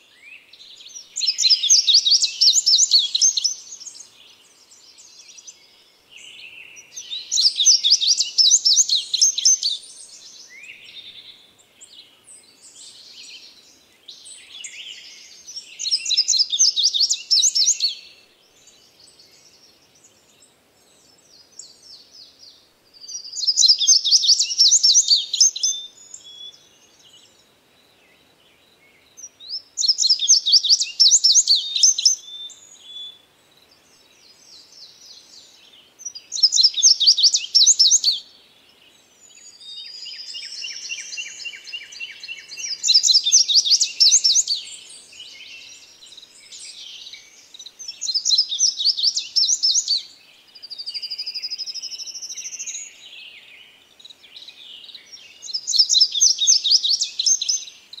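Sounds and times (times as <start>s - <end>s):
soft bird chirps: 0.0s - 58.0s
songbird singing: 0.0s - 58.0s.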